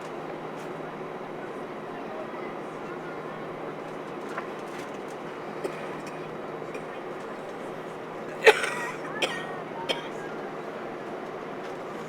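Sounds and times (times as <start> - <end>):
low constant hum: 0.0 - 12.0.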